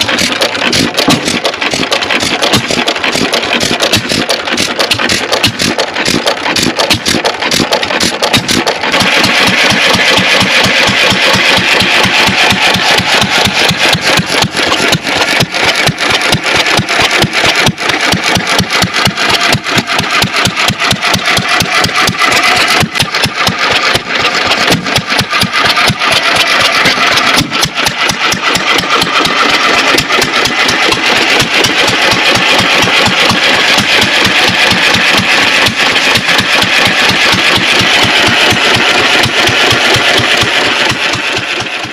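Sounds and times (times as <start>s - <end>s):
stationary engine knocking: 0.0s - 41.9s.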